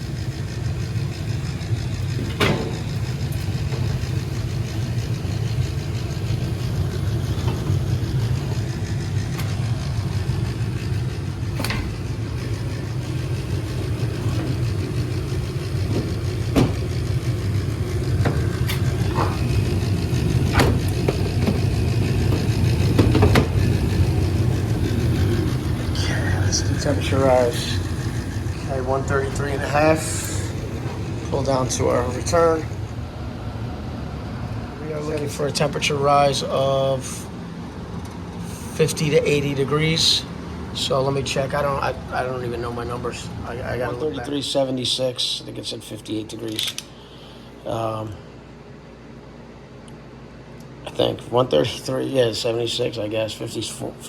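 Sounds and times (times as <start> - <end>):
gas furnace humming: 0.0 - 54.0.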